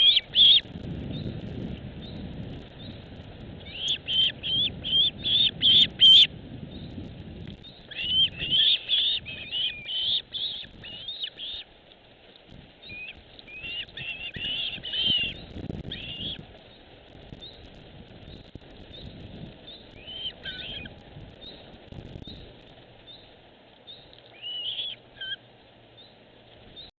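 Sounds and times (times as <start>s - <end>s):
small birds chirping: 0.0s - 1.4s, 3.6s - 7.0s, 7.6s - 11.7s, 12.8s - 26.9s
soft low muffled sounds: 0.0s - 26.9s.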